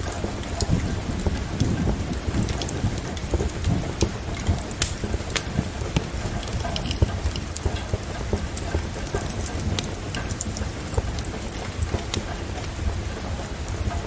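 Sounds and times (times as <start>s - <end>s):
steady rain: 0.0s - 14.0s
wood fire crackling and popping: 0.0s - 14.0s.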